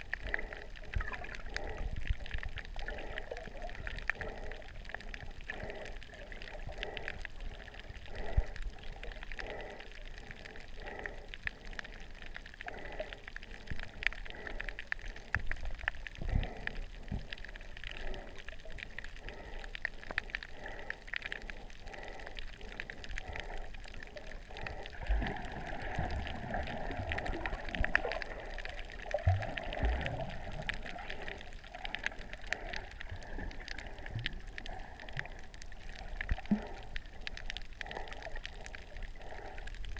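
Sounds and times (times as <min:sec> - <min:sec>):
faint clicks: 0:00.0 - 0:39.9
muffled underwater water wash: 0:00.0 - 0:39.9
soft regular pulsing: 0:00.0 - 0:39.9.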